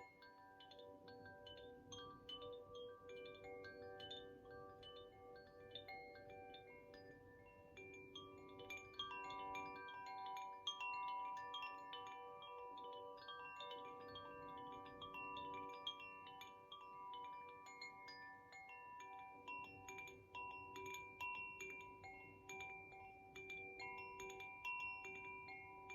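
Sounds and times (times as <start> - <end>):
wind chime tinkling: 0.0 - 25.9.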